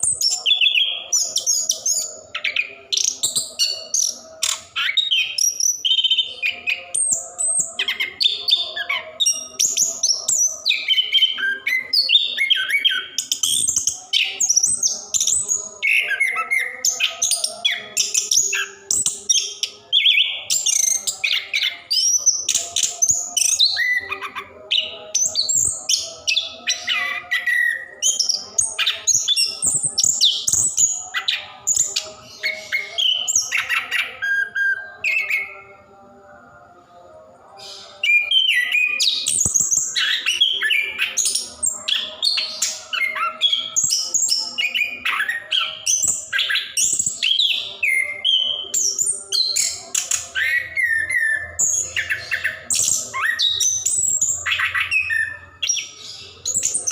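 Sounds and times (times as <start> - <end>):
thrush singing: 0.0 - 56.9.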